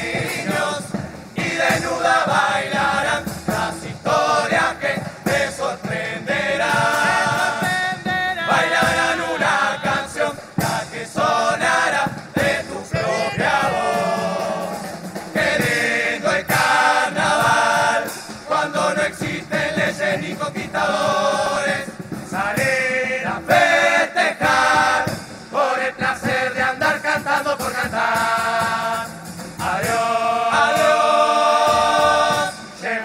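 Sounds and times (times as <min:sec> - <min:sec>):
chorus of voices singing: 0:00.0 - 0:33.0
drum beats: 0:00.0 - 0:33.0.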